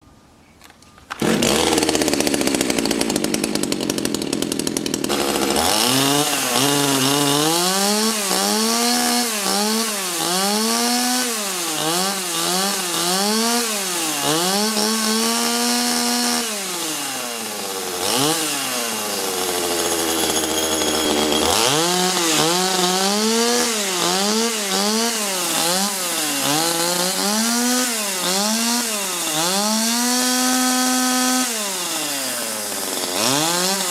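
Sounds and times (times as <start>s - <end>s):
chainsaw engine revving: 1.1s - 33.9s.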